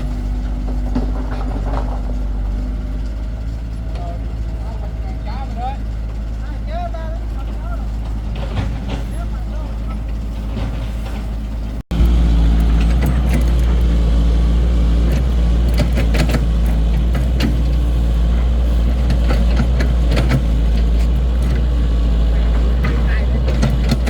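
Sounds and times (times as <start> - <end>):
knocks and clatter: 0.0 - 4.5, 7.2 - 24.0
excavator engine running: 0.0 - 24.0.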